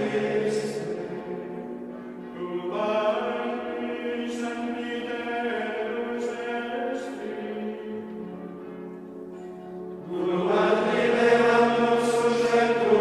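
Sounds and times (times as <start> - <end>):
choir chanting: 0.0 - 8.0, 10.0 - 13.0.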